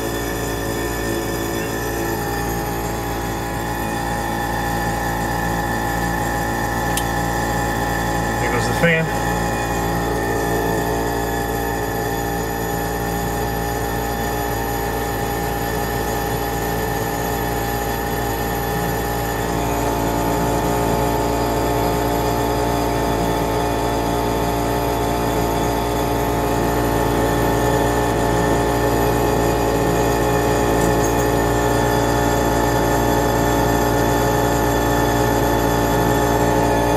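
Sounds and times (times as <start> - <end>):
blower fan running: 0.0 - 36.9
furnace combustion drone: 0.0 - 36.9.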